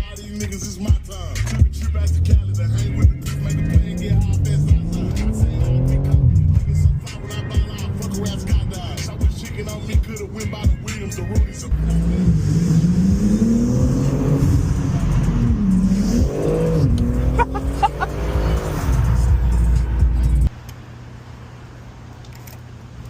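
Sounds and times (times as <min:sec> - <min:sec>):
rap music: 0:00.0 - 0:20.6
car engine accelerating: 0:00.6 - 0:20.6.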